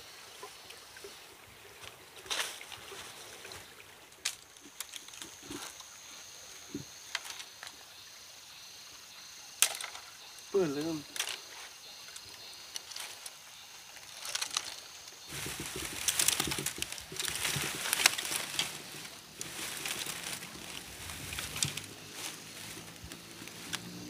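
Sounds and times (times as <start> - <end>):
dry straw and twigs crackling: 1.8 - 7.8, 9.6 - 24.0.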